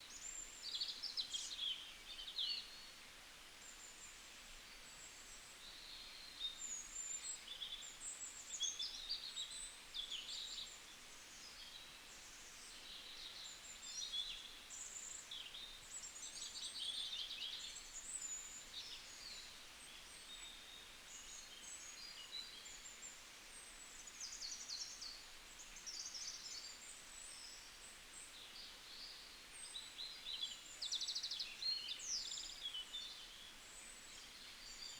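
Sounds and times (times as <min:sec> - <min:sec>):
faint background hiss: 0:00.0 - 0:34.9.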